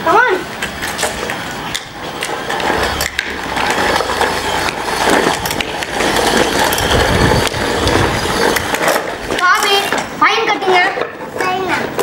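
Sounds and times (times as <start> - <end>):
toy truck wheels rattling on concrete: 0.1 - 12.0.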